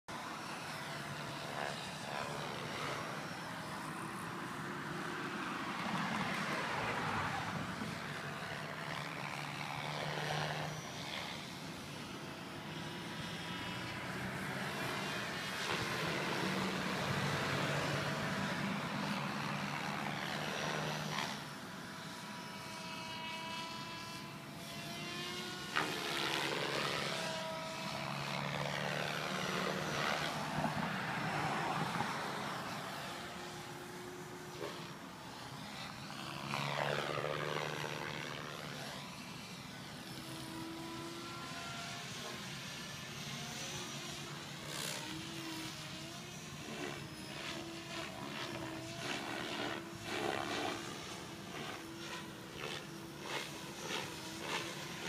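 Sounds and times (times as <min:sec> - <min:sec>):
model helicopter motor whine: 0:00.0 - 0:55.0.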